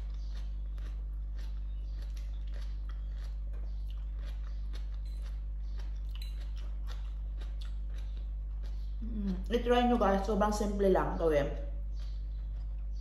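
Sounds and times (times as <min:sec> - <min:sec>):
person chewing noodles: 0:00.0 - 0:09.5, 0:11.7 - 0:13.0
low hum: 0:00.0 - 0:13.0.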